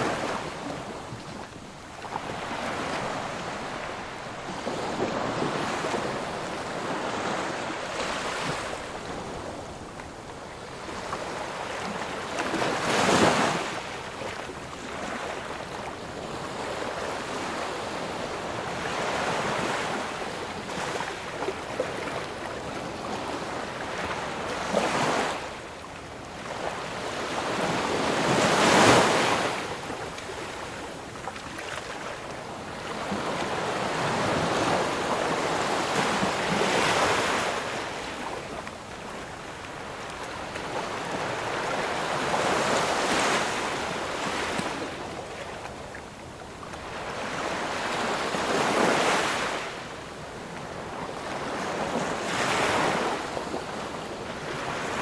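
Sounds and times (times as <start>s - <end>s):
ocean waves washing onto shore: 0.0s - 55.0s.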